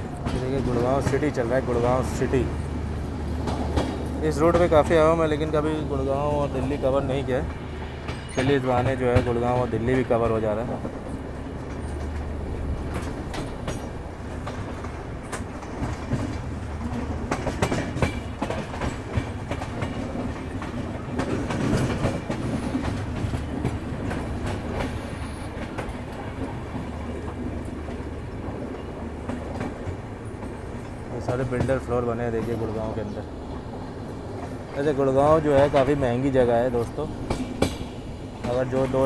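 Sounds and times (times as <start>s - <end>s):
train coach rumble: 0.0s - 39.0s
wheels clicking over rail joints: 0.0s - 39.0s.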